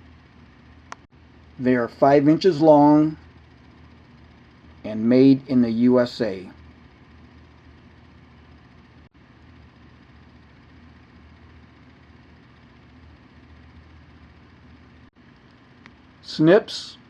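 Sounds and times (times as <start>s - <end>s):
low background hum with hiss: 0.0s - 17.0s.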